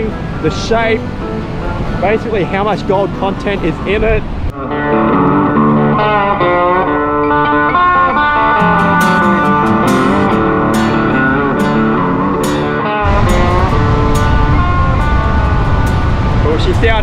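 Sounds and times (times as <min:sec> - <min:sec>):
guitar instrumental music: 0:00.0 - 0:17.0.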